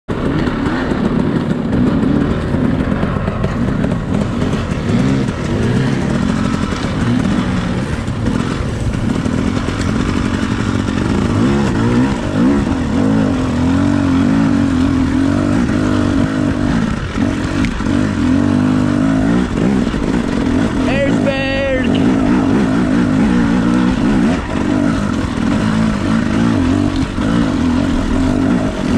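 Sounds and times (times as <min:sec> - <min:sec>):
dirt bike engine revving: 0:00.1 - 0:28.9.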